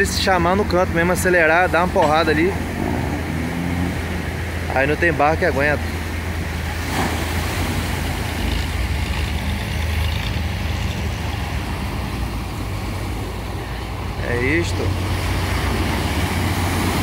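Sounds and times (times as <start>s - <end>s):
boat diesel engine droning: 0.0s - 17.0s
surf washing around hull: 0.0s - 17.0s.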